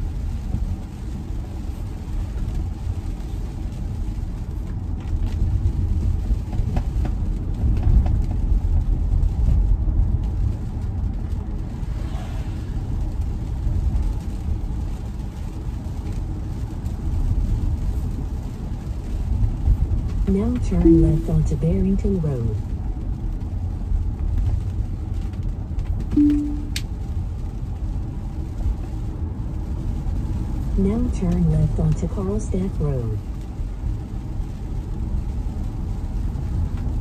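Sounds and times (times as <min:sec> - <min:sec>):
tyres rumbling on wet road: 0:00.0 - 0:26.2, 0:26.8 - 0:37.0.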